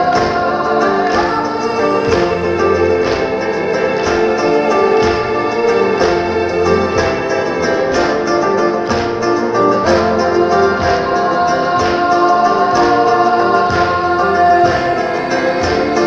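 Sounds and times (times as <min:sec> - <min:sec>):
choir-like voices: 0:00.0 - 0:16.0
instrumental backing: 0:00.0 - 0:16.0.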